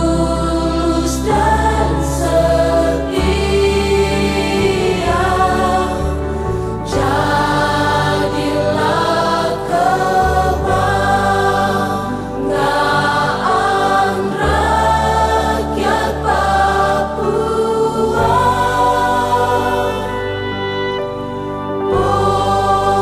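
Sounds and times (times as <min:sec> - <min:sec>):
bass accompaniment: 0:00.0 - 0:23.0
choir singing a hymn: 0:00.0 - 0:23.0.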